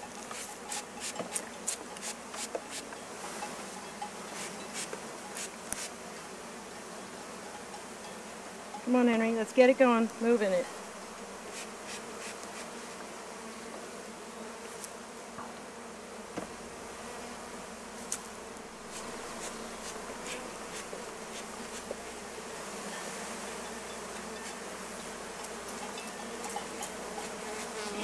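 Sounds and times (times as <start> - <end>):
honey bees buzzing: 0.0 - 28.0.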